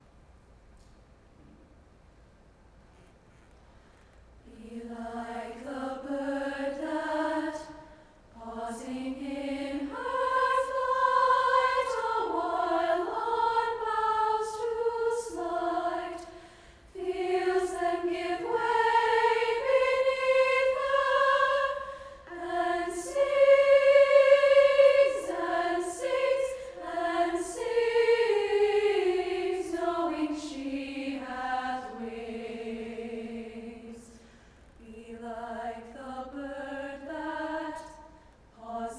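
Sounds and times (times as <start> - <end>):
choir singing: 4.5 - 38.9.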